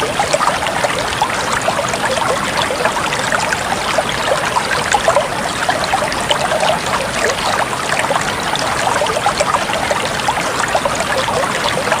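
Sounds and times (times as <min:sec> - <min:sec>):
stream babbling and trickling: 0:00.0 - 0:12.0.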